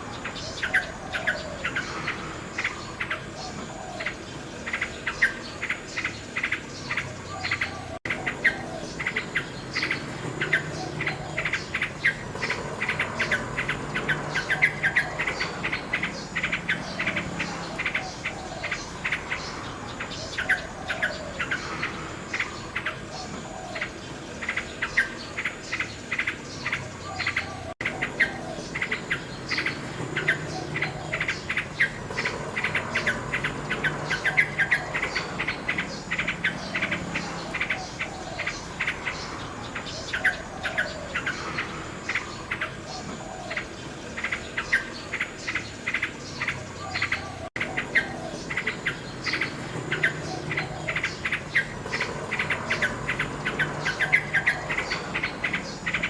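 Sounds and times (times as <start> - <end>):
insects chirping: 0.0 - 56.0
nightingale singing: 0.0 - 56.0.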